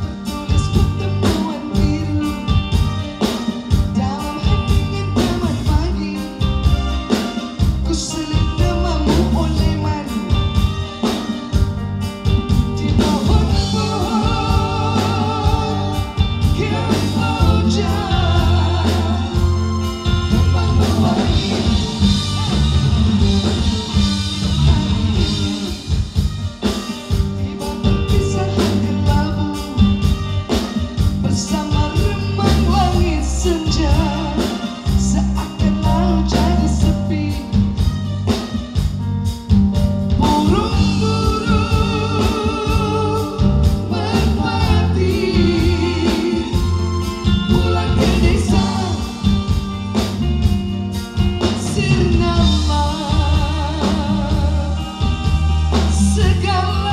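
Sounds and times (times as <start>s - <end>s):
drum kit steady beat: 0.0s - 56.9s
electric guitar: 0.0s - 56.9s
keyboard: 0.0s - 56.9s.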